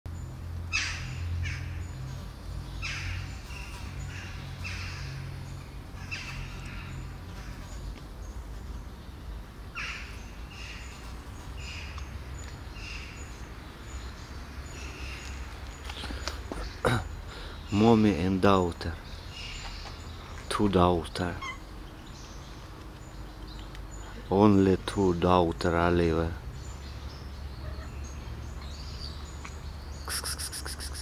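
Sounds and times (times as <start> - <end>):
small birds chirping: 0.1 - 31.0.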